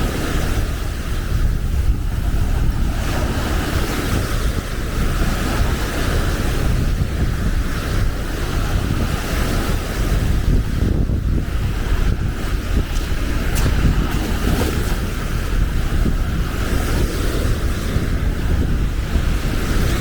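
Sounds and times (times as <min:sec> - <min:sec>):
small waves breaking on beach: 0:00.0 - 0:20.0
wind buffeting microphone: 0:00.0 - 0:20.0.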